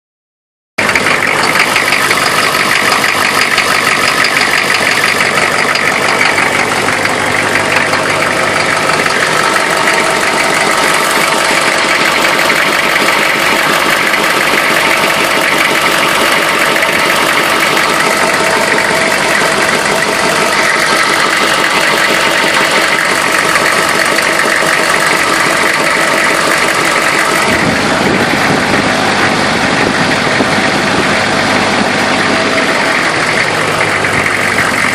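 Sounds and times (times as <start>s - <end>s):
diesel engine idling: 0.8s - 34.9s.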